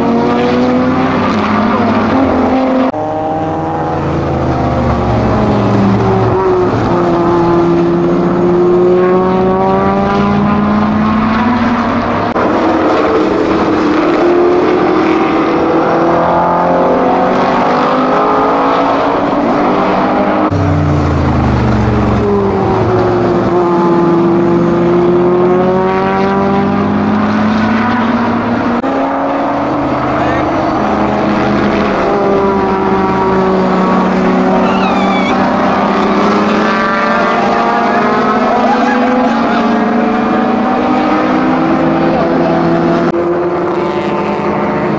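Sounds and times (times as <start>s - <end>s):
deeper-pitched engine: 0.0s - 44.9s
racing car engines revving: 0.0s - 44.9s.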